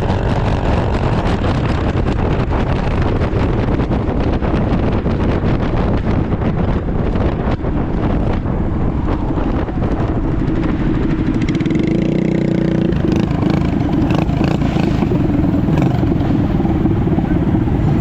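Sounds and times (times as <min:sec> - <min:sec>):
mini bike engines rumbling: 0:00.0 - 0:18.0.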